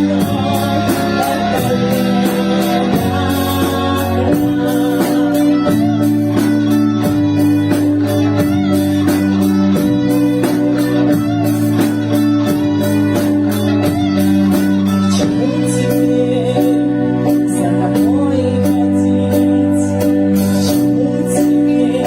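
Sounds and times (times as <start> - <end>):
band music with guitar: 0.0 - 22.0.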